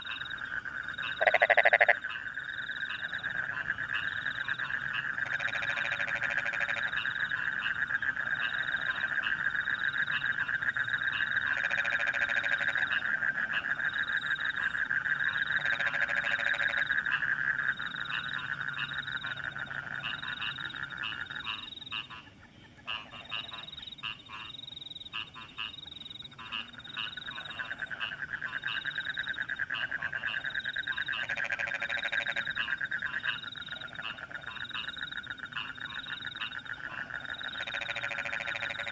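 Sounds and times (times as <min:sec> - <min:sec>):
crickets chirping: 0:00.0 - 0:22.2, 0:23.1 - 0:38.9
frog croaks: 0:00.0 - 0:38.9
frogs trilling chorus: 0:00.0 - 0:38.9.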